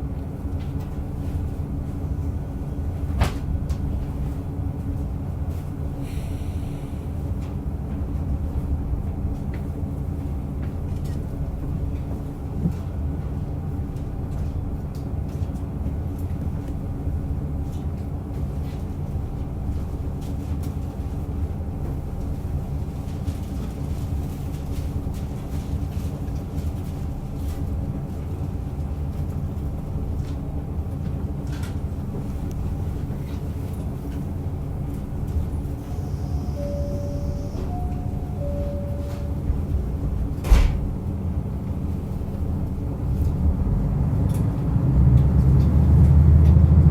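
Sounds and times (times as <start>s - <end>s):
railcar engine drone: 0.0s - 46.9s
wheels rumbling on rail: 0.0s - 46.9s.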